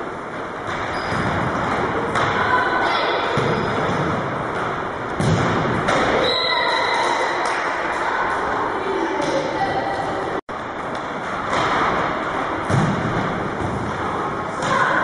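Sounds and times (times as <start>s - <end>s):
echoing sports hall din: 0.0s - 15.0s.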